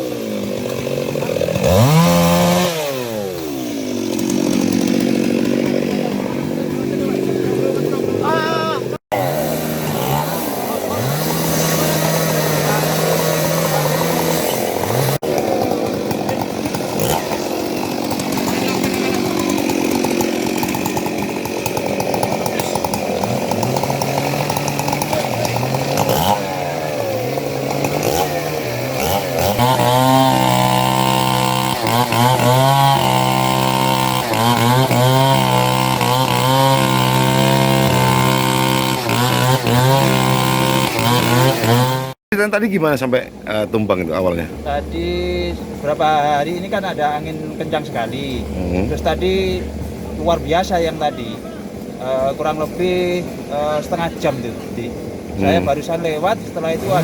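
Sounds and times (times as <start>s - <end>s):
chainsaw revving: 0.0s - 42.2s, 44.2s - 57.0s.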